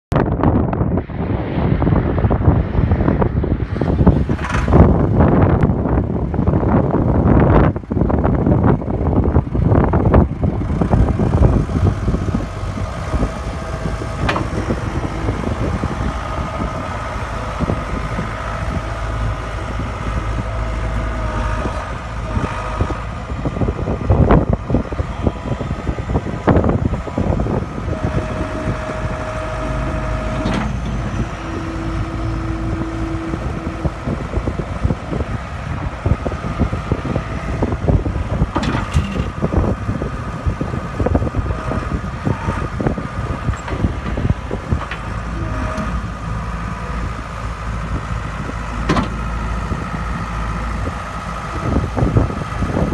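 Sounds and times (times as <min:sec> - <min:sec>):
skid steer diesel engine running: 0:00.2 - 0:52.9.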